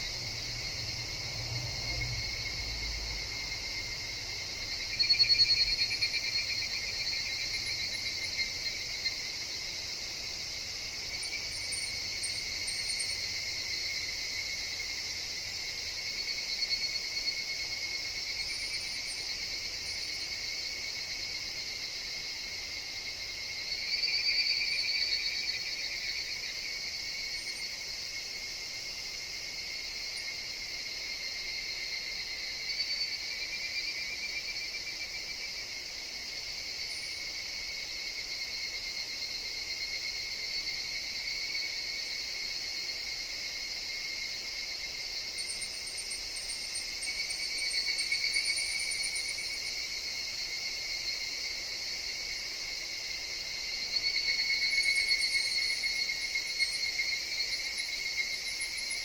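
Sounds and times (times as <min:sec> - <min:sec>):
cicadas chorus calling: 0:00.0 - 0:59.0.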